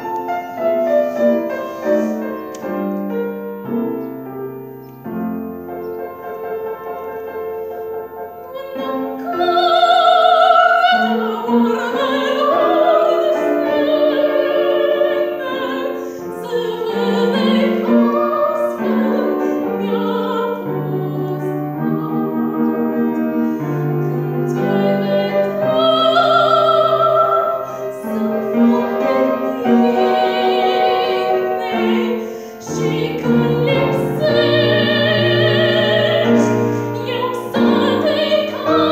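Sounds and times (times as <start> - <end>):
piano accompaniment: 0.0 - 38.9.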